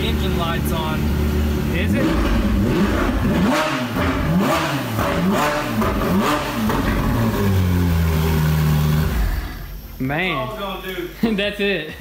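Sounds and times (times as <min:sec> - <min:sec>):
car engine throttle blips: 0:00.0 - 0:10.0
car engine idling: 0:00.0 - 0:11.4.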